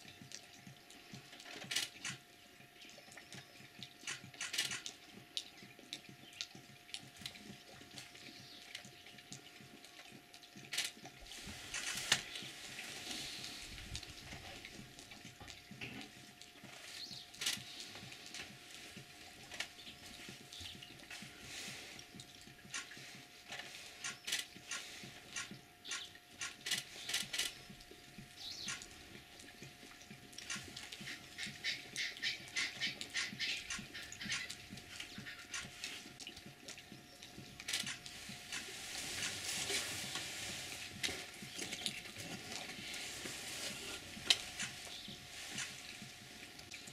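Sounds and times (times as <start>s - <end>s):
lions lapping water: 0.0s - 46.9s.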